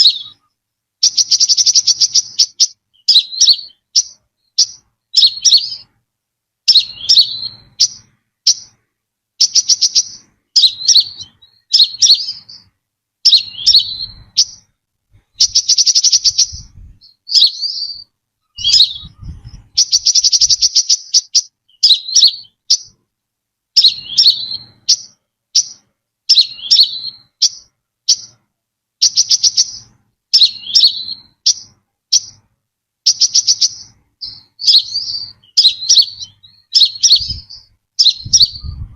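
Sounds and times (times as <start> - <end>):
sunbird buzzy trills: 0.0 - 6.0, 6.6 - 23.0, 23.7 - 38.9.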